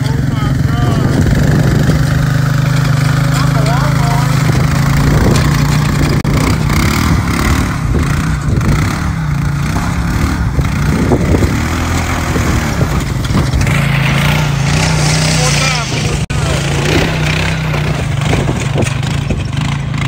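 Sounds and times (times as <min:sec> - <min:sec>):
atv engine running under load: 0:00.0 - 0:20.0
lawn mower scraping through dirt: 0:00.0 - 0:20.0.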